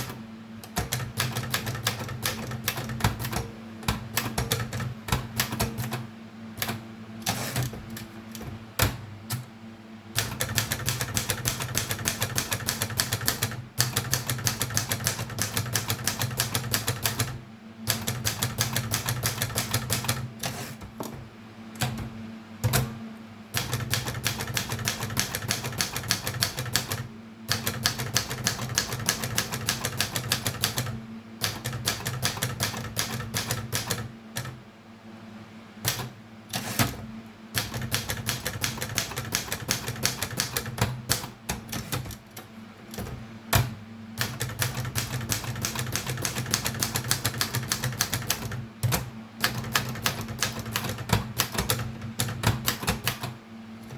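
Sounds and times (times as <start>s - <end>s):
typewriter keys striking: 0.0s - 6.0s, 10.2s - 20.8s, 23.6s - 34.5s, 37.6s - 53.4s
steady low hum: 0.0s - 53.9s.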